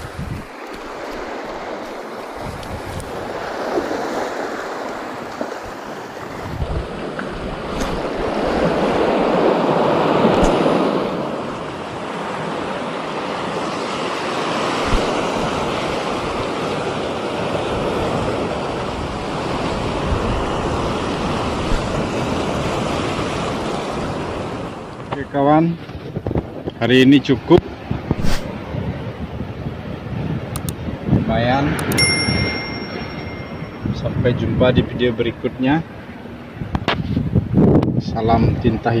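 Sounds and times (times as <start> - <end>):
sea waves washing onto beach: 0.0 - 37.2
wind buffeting microphone: 0.0 - 39.0.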